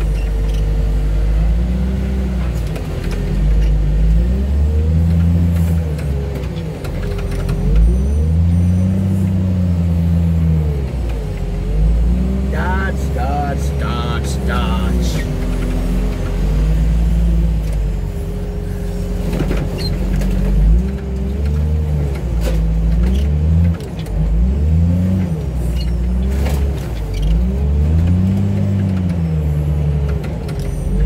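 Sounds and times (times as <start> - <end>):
loader engine revving: 0.0 - 31.0.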